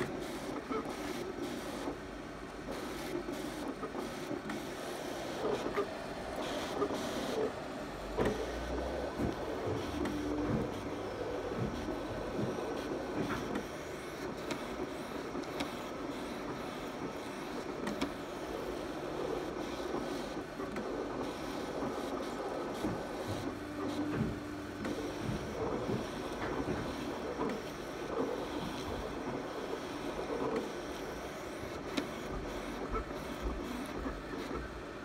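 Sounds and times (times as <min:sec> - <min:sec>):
vinyl cutter motors whirring: 0:00.0 - 0:35.0.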